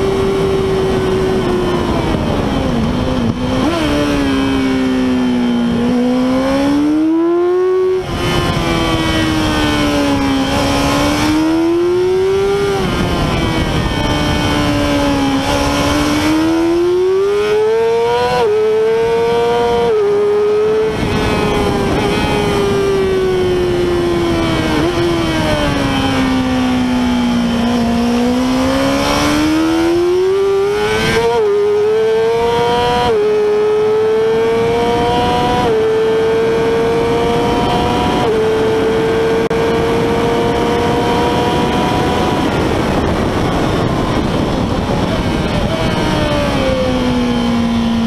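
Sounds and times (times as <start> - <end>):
motorcycle engine accelerating: 0.0 - 48.0
wind noise: 0.0 - 48.0.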